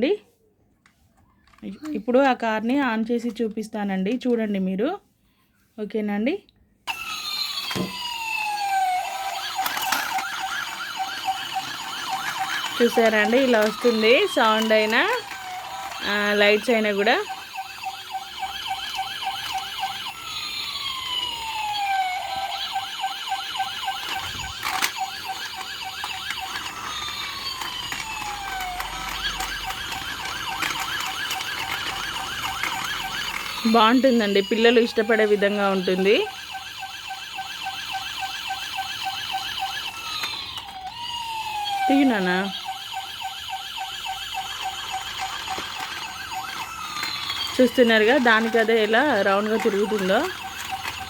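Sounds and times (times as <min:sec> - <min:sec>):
toy police siren warbling: 0:06.9 - 0:51.0.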